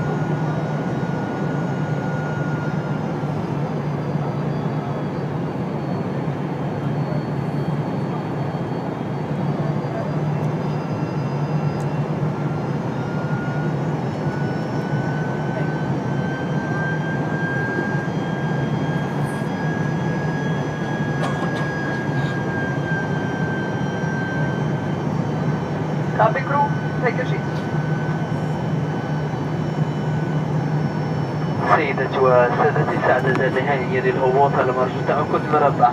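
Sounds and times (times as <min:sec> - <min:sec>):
airliner cabin roar: 0:00.0 - 0:35.9.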